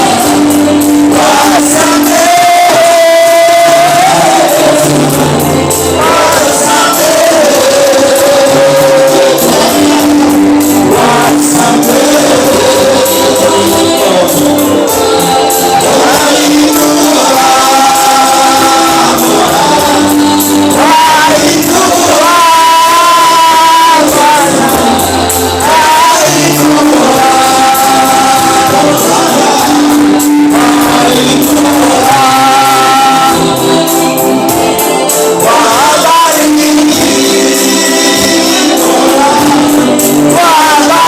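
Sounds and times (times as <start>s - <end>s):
band accompaniment: 0.0s - 41.0s
voices singing gospel: 0.0s - 41.0s.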